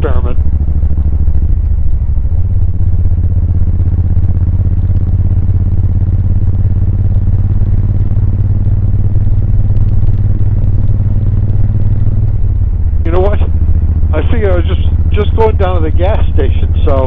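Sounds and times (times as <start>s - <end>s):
motorcycle engine rumble: 0.0s - 17.0s.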